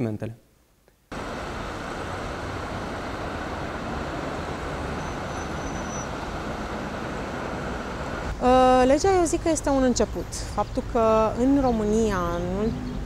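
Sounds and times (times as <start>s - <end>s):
road traffic rumble: 1.1s - 13.0s.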